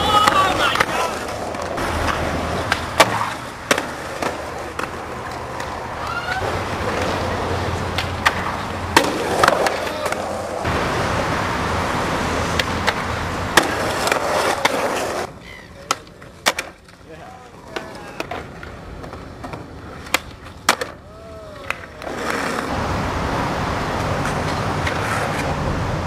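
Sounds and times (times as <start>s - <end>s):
skateboard clacks: 0.0s - 10.8s, 12.4s - 22.8s, 24.0s - 25.7s
skateboard wheels rumbling on concrete: 0.0s - 26.0s.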